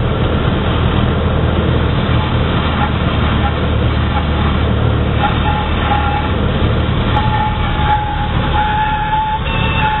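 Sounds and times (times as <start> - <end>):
propeller engine droning: 0.0 - 10.0.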